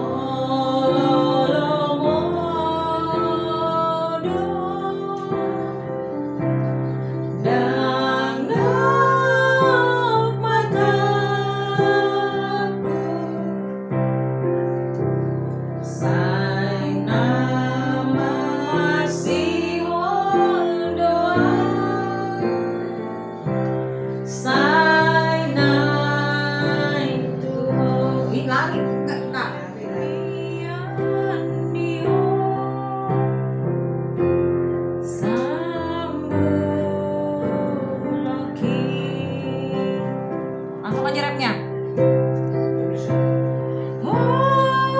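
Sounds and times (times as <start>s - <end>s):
women singing: 0.0s - 14.0s, 15.8s - 33.6s, 35.0s - 41.7s, 43.8s - 44.9s
digital piano chords: 0.0s - 44.9s.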